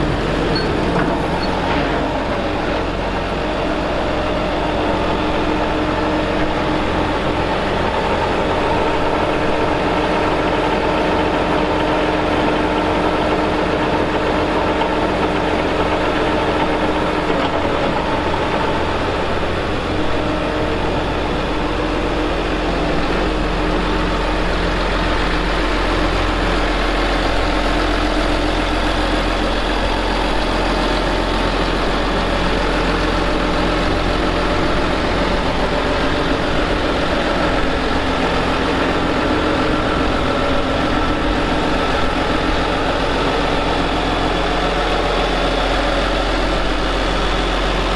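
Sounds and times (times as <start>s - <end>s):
tractor diesel engine idling: 0.0s - 47.9s.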